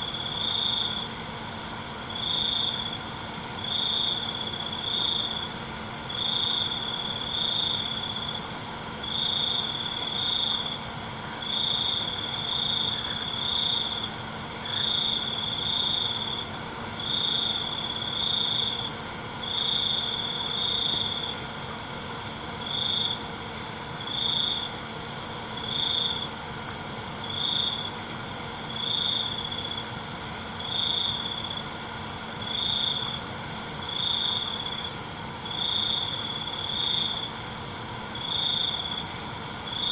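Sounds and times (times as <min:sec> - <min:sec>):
cricket trilling nearby: 0:00.0 - 0:39.9
insect chorus: 0:00.0 - 0:39.9.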